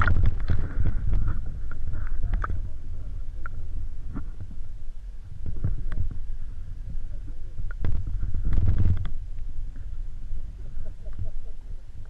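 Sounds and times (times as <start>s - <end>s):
faint underwater clicks: 0.0s - 12.0s
underwater low rumble: 0.0s - 12.0s.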